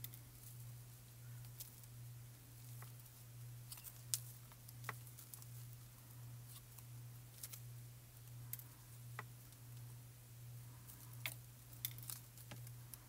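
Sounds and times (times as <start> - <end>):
steady low hum: 0.0 - 13.0
cardstock ticks and crinkles: 1.4 - 9.9, 10.8 - 13.0.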